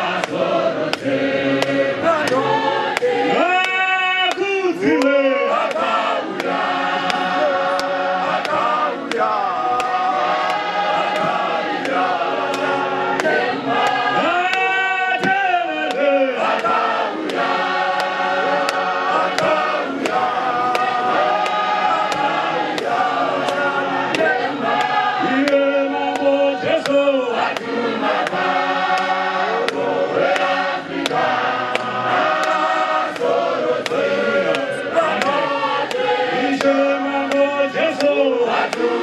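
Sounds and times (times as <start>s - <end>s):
man singing through a microphone: 0.0s - 17.3s, 17.9s - 30.0s, 33.5s - 39.0s
group singing a hymn: 0.0s - 39.0s
sharp regular beat: 0.0s - 39.0s.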